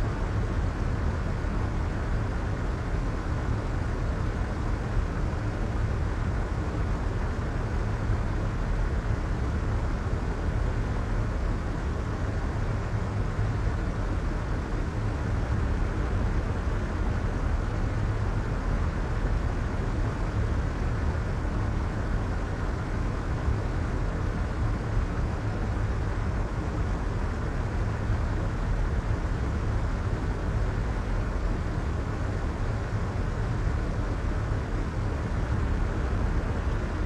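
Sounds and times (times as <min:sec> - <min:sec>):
deep white noise: 0:00.0 - 0:37.0.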